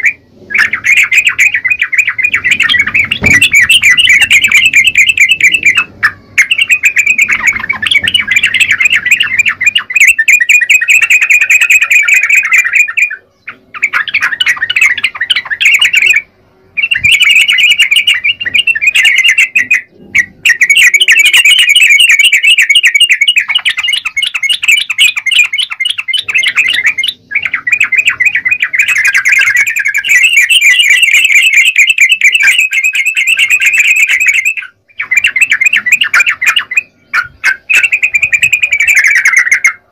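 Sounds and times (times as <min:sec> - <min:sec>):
bird singing rapid chattering notes: 0:00.0 - 0:39.9.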